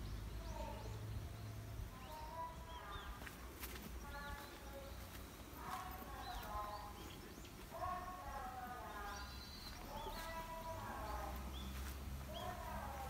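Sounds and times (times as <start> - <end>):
birds drawn-out calls: 0.0 - 13.0.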